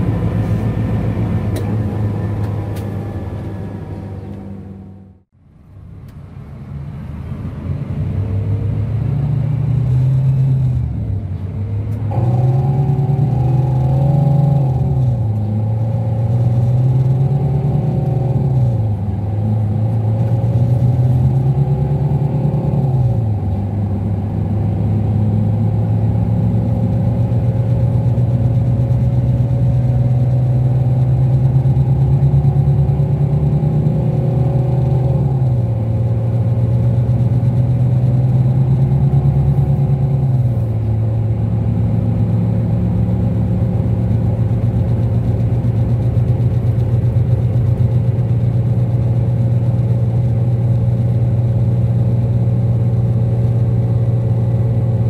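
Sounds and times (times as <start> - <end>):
diesel bus engine shifting gears: 0.0 - 55.0.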